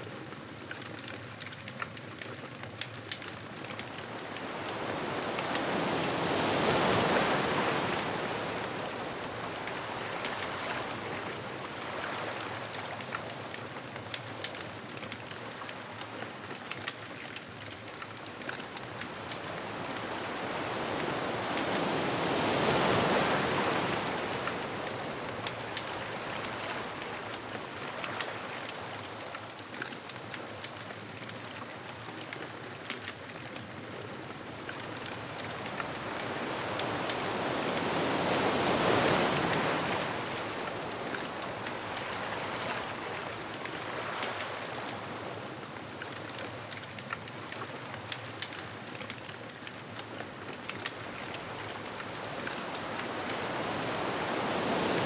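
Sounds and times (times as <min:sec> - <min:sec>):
bonfire crackling and popping: 0:00.0 - 0:55.0
ocean waves washing onto beach: 0:00.0 - 0:55.0.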